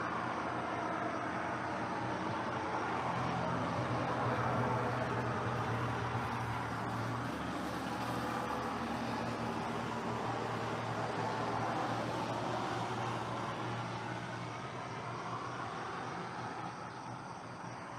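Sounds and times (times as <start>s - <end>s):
outdoor noise: 0.0s - 17.9s.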